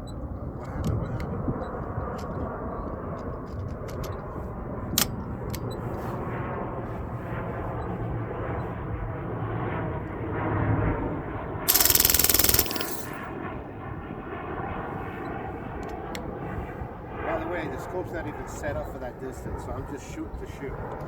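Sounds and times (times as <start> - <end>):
wind buffeting microphone: 0.0 - 11.4, 13.3 - 21.0.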